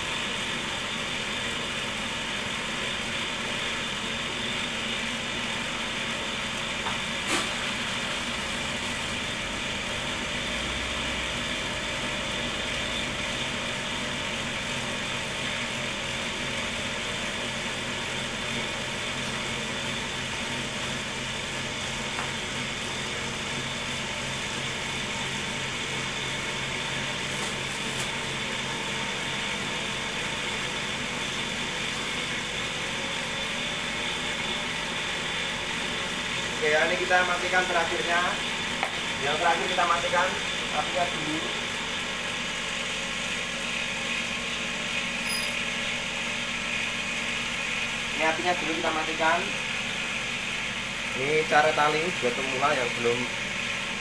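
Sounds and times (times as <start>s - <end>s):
cotton candy machine hum: 0.0s - 54.0s.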